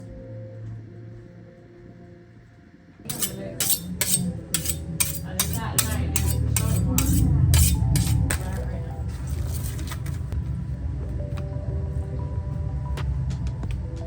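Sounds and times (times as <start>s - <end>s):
bass: 0.0s - 14.0s.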